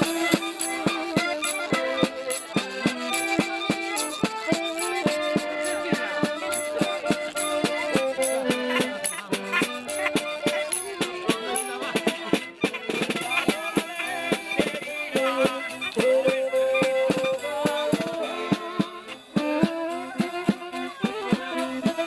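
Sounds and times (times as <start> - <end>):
drums and cymbal beat: 0.0 - 22.0
saxophone playing tune: 0.0 - 22.0.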